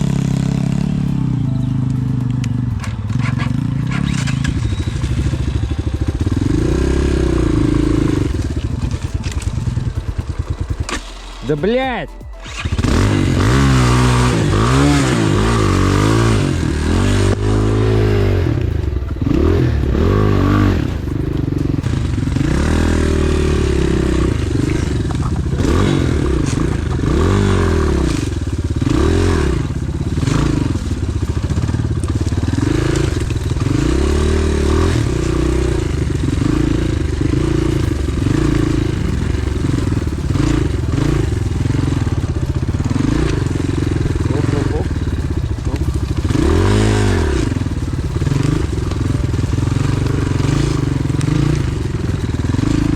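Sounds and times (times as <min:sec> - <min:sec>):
bike rattling and scraping: 0:00.0 - 0:52.9
motorbike engine revving: 0:00.0 - 0:52.9.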